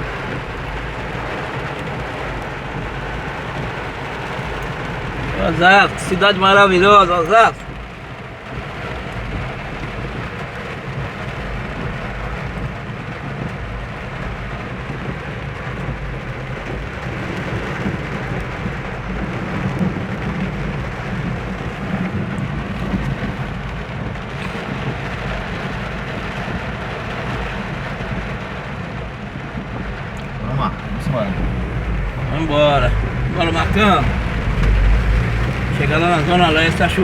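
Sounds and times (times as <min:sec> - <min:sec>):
rain and spray hissing: 0:00.0 - 0:37.0
vehicle driving rumble: 0:00.0 - 0:37.0.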